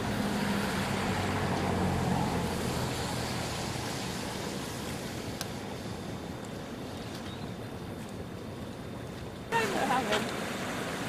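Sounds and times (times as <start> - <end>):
rushing river water: 0.0 - 11.0
vehicle engine hum: 0.0 - 11.0.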